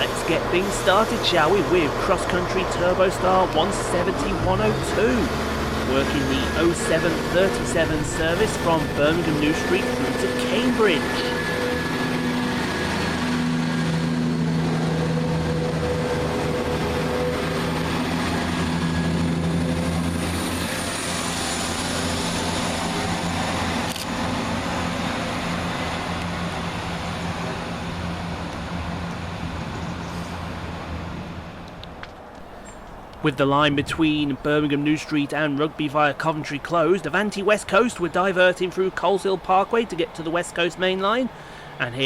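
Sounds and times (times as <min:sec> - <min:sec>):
train diesel engines droning: 0:00.0 - 0:42.0.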